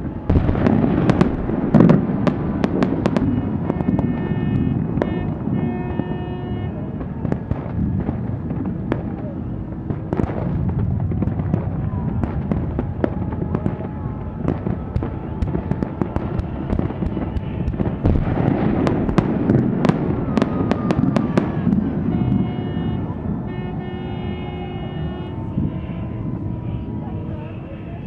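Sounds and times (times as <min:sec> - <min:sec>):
fireworks cracking and banging: 0:00.0 - 0:28.0.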